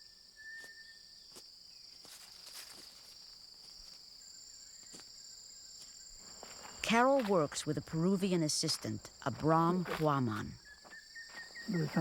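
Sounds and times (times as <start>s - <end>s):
insects droning chorus: 0.0s - 12.0s.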